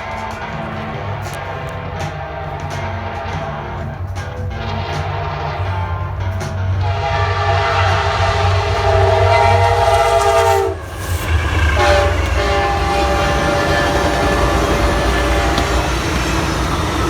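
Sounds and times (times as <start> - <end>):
locomotive air horn: 0.0 - 17.0
train engine rumble: 0.0 - 17.0.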